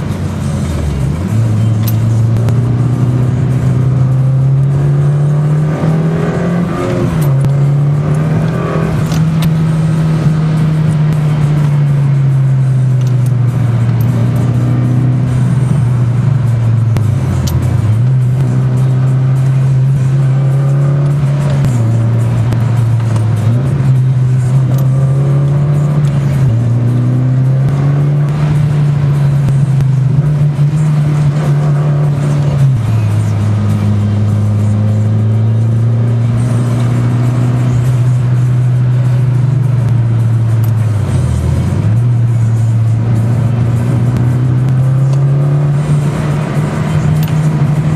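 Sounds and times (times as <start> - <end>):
car engine while driving: 0.0 - 47.9.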